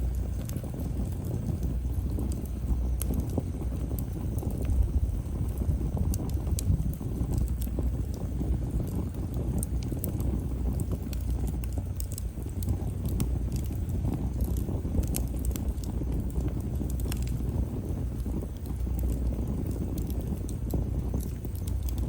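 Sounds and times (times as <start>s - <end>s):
firewood crackling and popping: 0.0s - 22.0s
rush of flames: 0.0s - 22.0s.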